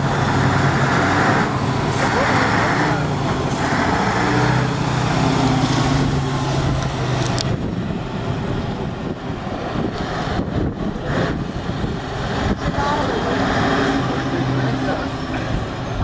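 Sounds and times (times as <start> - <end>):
truck diesel engine pulling away: 0.0 - 16.0.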